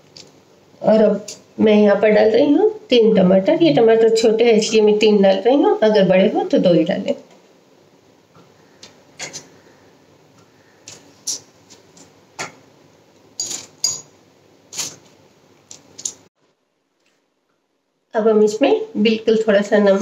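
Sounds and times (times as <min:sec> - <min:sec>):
faint room noise: 0:00.0 - 0:20.0.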